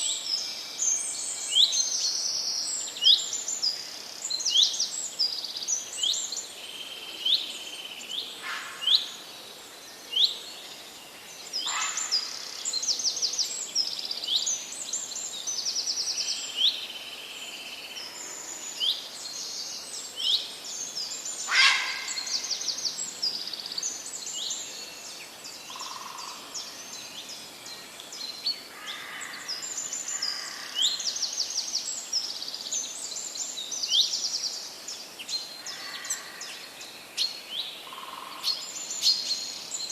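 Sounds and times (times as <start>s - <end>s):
songbirds chirping and singing: 0.0s - 39.9s
steady background hiss: 0.0s - 39.9s.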